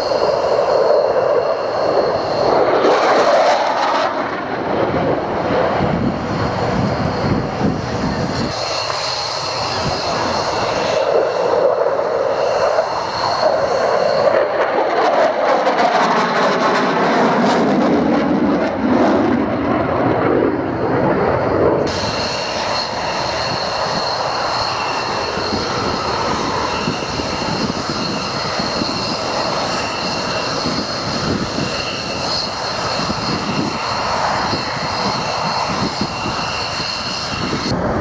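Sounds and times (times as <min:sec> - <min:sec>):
aircraft engine roar: 0:00.0 - 0:38.0
steady high whine: 0:00.0 - 0:38.0.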